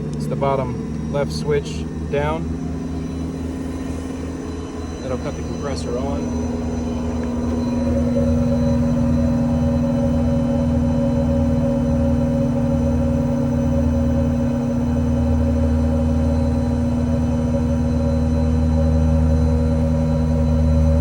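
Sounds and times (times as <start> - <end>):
air compressor humming: 0.0 - 21.0
diesel engine idling: 0.0 - 21.0.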